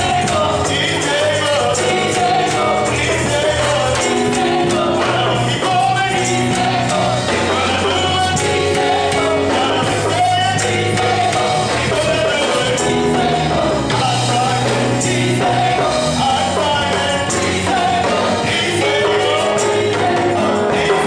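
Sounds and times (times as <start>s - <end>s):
band accompaniment: 0.0s - 21.0s
gospel singing: 0.0s - 21.0s
tambourine: 0.0s - 21.0s.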